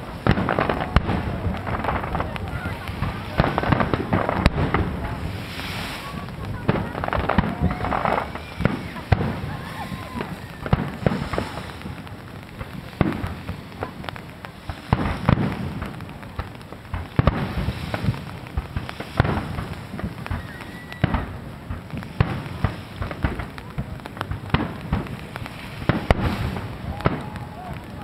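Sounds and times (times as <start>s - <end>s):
firework crackling: 0.0s - 28.0s
firework shells booming: 0.0s - 28.0s.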